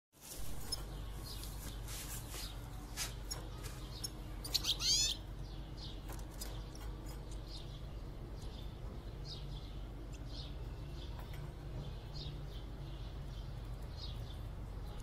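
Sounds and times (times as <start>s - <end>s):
steady low hum: 0.2s - 15.0s
finches chirping: 0.3s - 15.0s.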